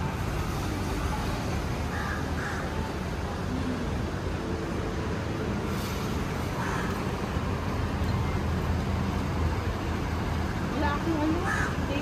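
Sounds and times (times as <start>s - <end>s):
passing traffic: 0.0s - 12.0s.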